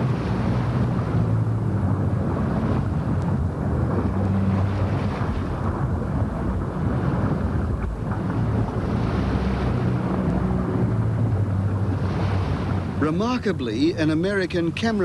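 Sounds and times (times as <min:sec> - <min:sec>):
low droning hum: 0:00.0 - 0:15.0
sea rumbling: 0:00.0 - 0:15.0
wind: 0:00.0 - 0:15.0.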